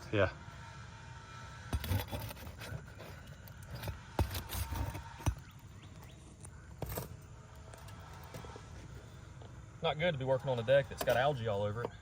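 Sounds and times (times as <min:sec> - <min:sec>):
faint chirps: 0:00.0 - 0:10.9
outdoor background noise: 0:00.0 - 0:12.0.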